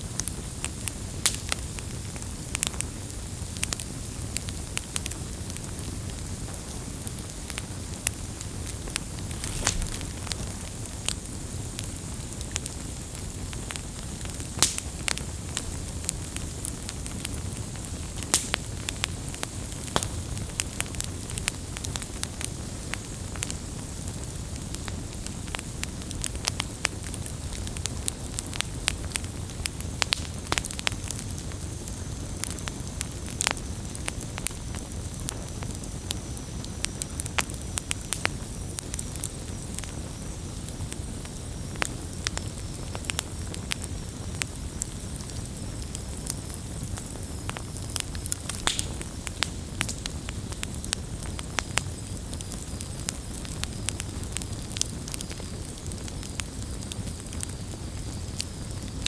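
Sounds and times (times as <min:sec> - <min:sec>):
campfire flames rushing: 0:00.0 - 0:59.0
fire crackles and pops: 0:00.0 - 0:59.0.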